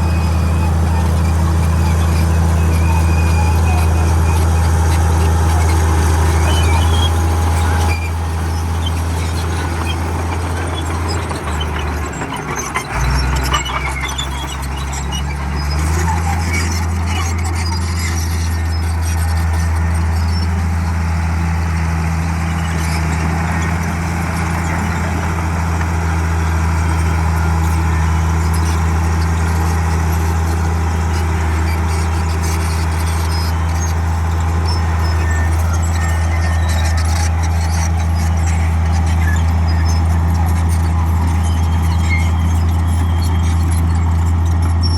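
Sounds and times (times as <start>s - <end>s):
bulldozer diesel engine under load: 0.0s - 44.9s
high squeal and clatter of machine: 0.0s - 44.9s.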